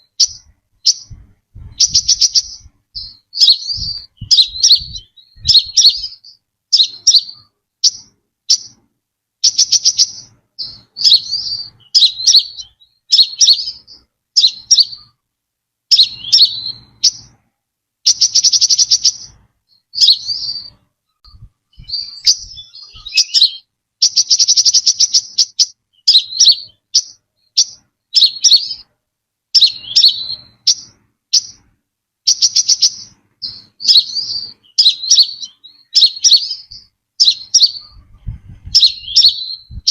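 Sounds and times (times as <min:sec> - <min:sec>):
buzzy bird trills: 0:00.0 - 0:08.8, 0:09.4 - 0:15.2, 0:15.9 - 0:17.3, 0:18.1 - 0:28.9, 0:29.6 - 0:31.7, 0:32.3 - 0:39.9
bird chirping: 0:00.0 - 0:15.2, 0:15.9 - 0:39.9.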